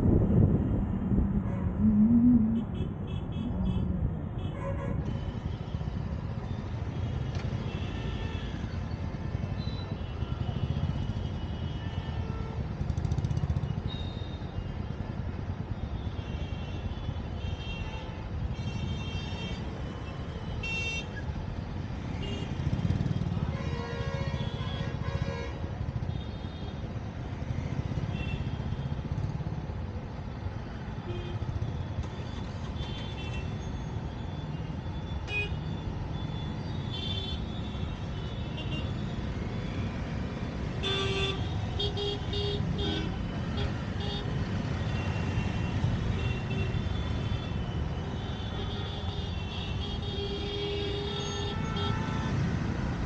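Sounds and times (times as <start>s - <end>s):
engine and road rumble: 0.0s - 53.0s.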